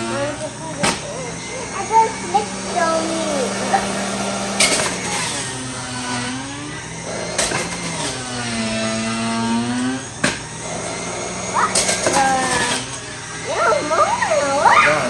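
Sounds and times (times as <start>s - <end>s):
juicer motor running: 0.0s - 15.0s.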